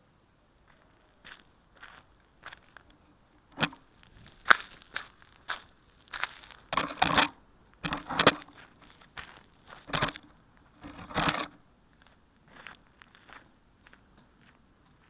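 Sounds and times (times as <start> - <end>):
footsteps crunching on gravel: 0.7 - 3.0, 3.6 - 7.2, 7.9 - 15.0.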